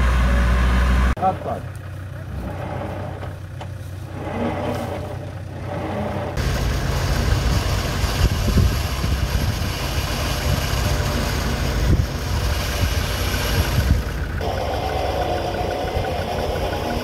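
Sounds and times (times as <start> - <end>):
engine idling: 0.0 - 17.0
engine rumbling: 0.0 - 17.0.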